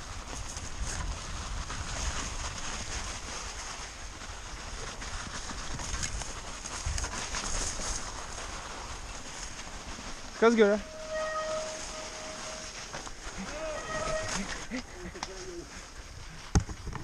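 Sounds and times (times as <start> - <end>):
bike rattling over bumps: 0.0 - 17.0
bike tyres running through snow: 0.0 - 17.0
wind rumbling on microphone: 0.0 - 17.0.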